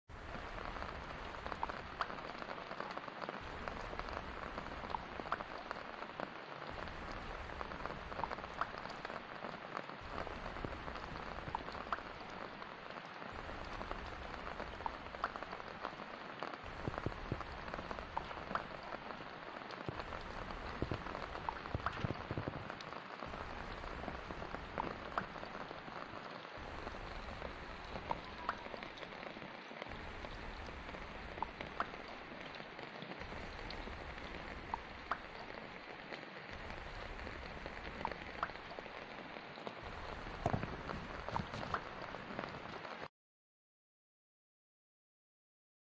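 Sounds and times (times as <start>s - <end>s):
heavy rain on standing water: 0.1s - 43.1s.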